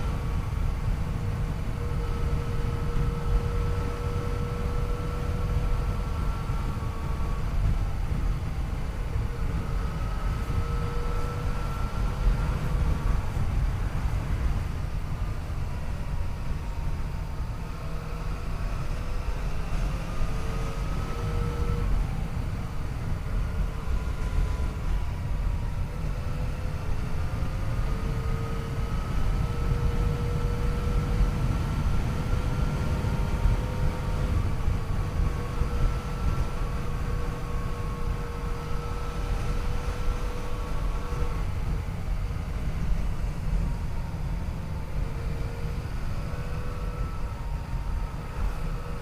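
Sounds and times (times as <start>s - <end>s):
wind rumble on microphone: 0.0s - 49.0s.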